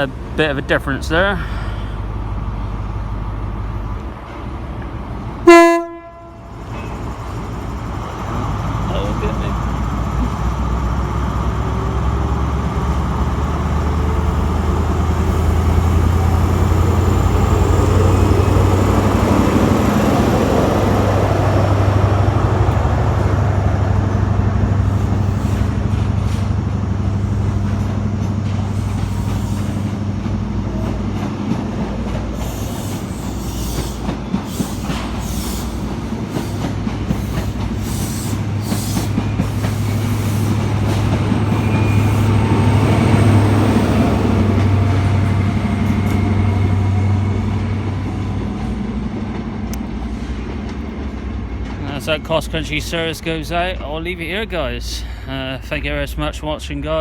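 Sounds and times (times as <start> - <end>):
diesel train engine drone: 0.0 - 57.0
train wheels clicking over rail joints: 6.6 - 54.6.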